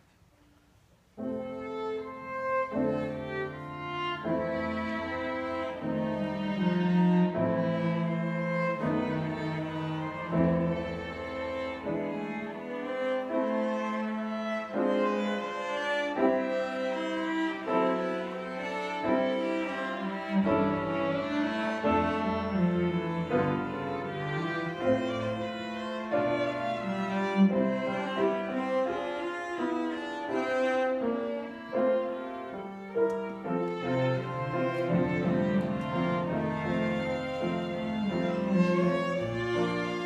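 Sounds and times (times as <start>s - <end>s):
cello: 0.0s - 40.0s
violin: 1.2s - 40.0s.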